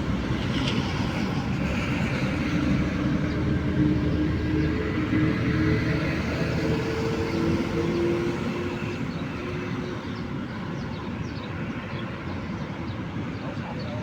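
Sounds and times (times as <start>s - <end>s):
passing motor vehicle rumble: 0.0s - 14.0s.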